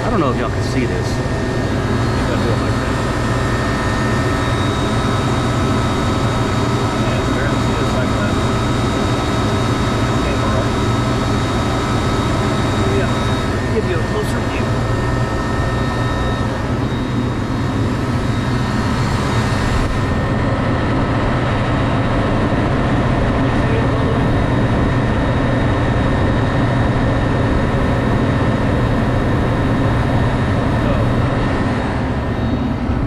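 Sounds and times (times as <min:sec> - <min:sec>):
condensing unit drone: 0:00.0 - 0:33.0.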